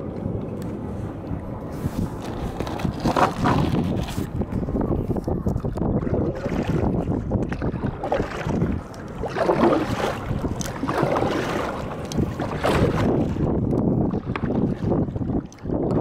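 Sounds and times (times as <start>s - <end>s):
water splashing against hull: 0.0s - 16.0s
wind rumbling on microphone: 0.0s - 16.0s.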